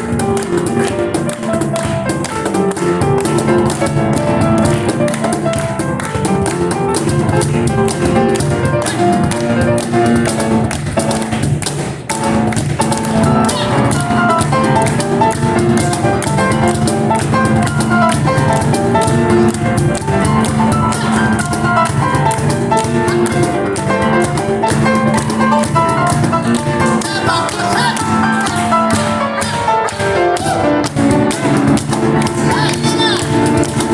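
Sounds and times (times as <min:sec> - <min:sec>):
cajon hits: 0:00.0 - 0:33.9
piano chords and melody: 0:00.0 - 0:33.9.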